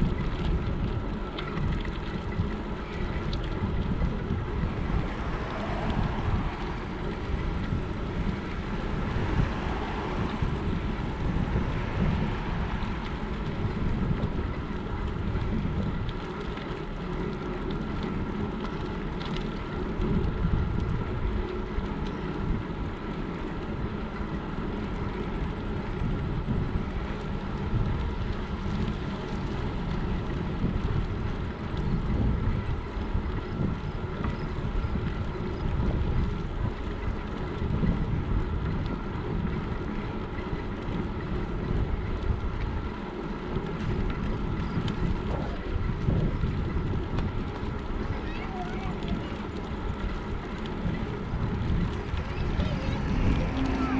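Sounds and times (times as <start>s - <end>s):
bicycle tyres on asphalt hum: 0.0s - 53.9s
wind buffeting microphone: 0.0s - 53.9s.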